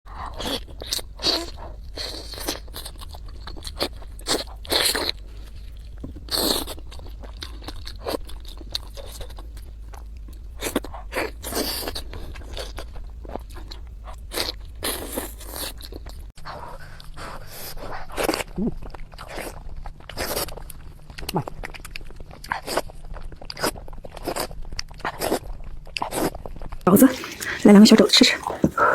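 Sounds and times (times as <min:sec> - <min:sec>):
crunchy food chewing: 0:00.1 - 0:16.3, 0:17.7 - 0:27.6.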